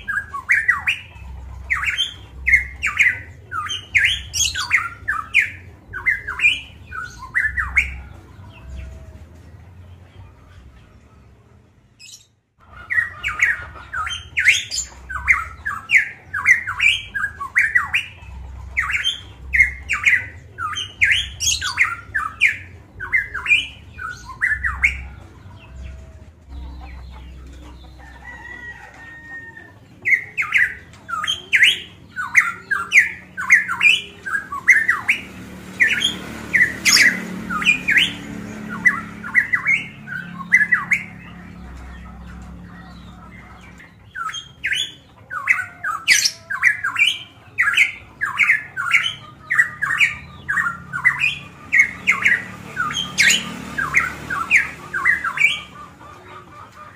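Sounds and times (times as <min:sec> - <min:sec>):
bird calling sharp notes: 0:00.0 - 0:09.3, 0:12.0 - 0:28.8, 0:30.0 - 0:56.3.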